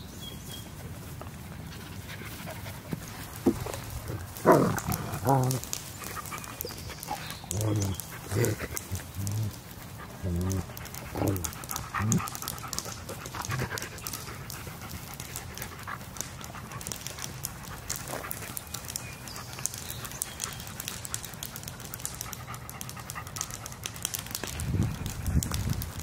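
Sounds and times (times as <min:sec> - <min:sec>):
dogs panting: 0:00.7 - 0:26.0
puppy vocal sounds: 0:02.0 - 0:24.0.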